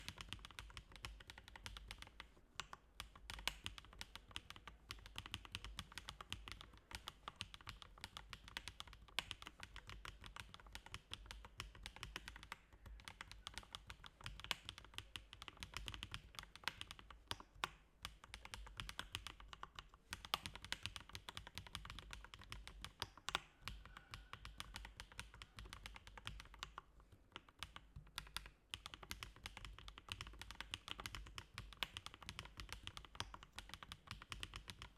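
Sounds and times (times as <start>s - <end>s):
mechanical keyboard typing: 0.0s - 34.9s.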